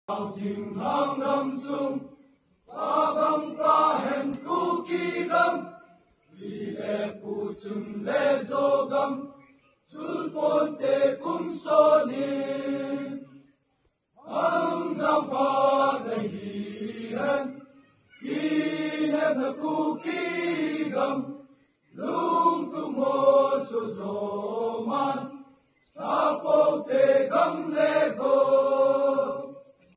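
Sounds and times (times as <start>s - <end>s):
voices chanting in unison: 0.1s - 13.5s, 14.2s - 29.9s.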